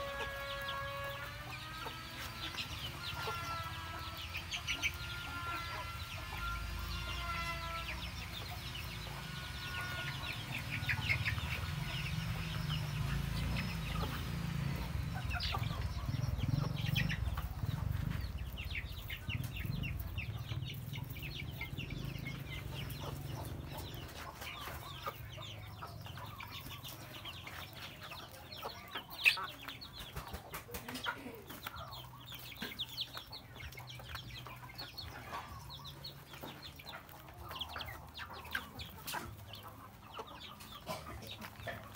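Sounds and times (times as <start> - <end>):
chicks clucking and peeping: 0.0 - 41.9.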